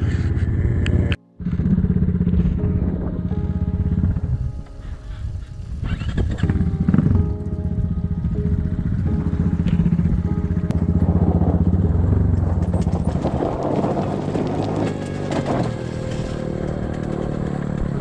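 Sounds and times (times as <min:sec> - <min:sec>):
motorcycle engine running: 0:00.0 - 0:18.0
rough noisy rattle: 0:00.0 - 0:18.0.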